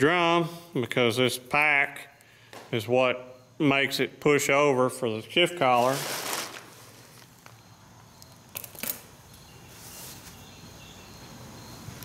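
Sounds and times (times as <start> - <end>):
faint workshop room noise: 0.0 - 12.0.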